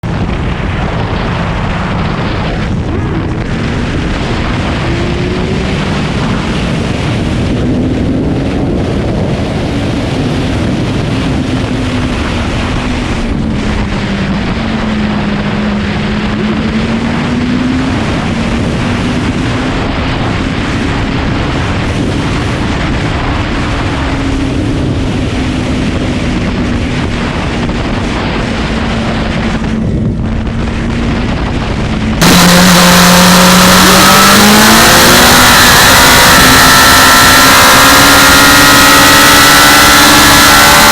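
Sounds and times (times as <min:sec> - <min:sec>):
motorcycle engine: 0:00.0 - 0:40.9
wind rushing over microphone: 0:00.0 - 0:40.9.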